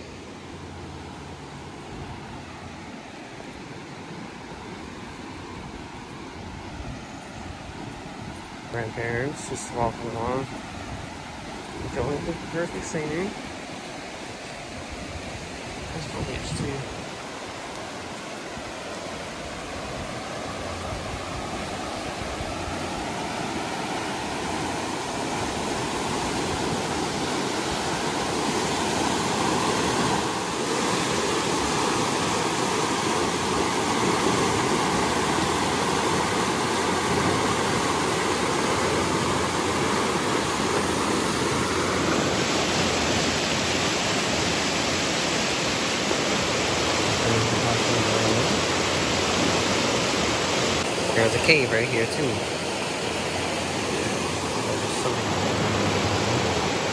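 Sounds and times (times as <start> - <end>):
water rushing over rocks: 0.0 - 56.9.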